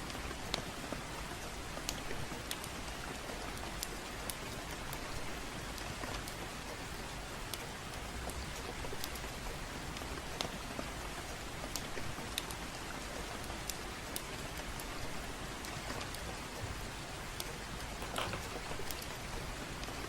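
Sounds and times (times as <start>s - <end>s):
steady rain: 0.0s - 20.0s
wood fire crackling: 0.1s - 20.0s.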